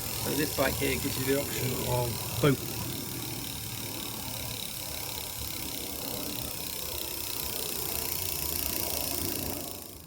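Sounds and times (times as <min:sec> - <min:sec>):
electric hub motor running: 0:00.0 - 0:10.0.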